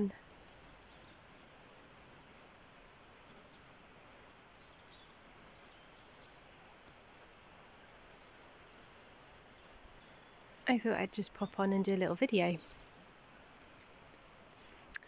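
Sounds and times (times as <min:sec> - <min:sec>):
faint steady hiss: 0:00.0 - 0:15.0
small birds chirping: 0:00.0 - 0:15.0.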